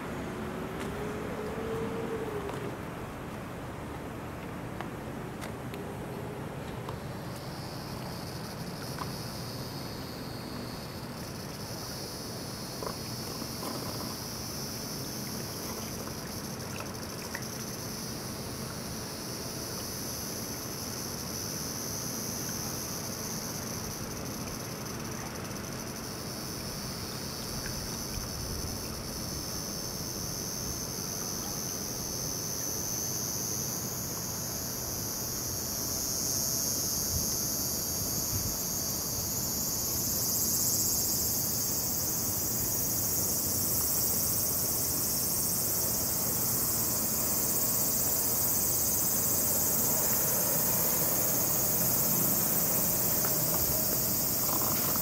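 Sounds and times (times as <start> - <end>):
high-pitched insect chorus: 6.9 - 55.0.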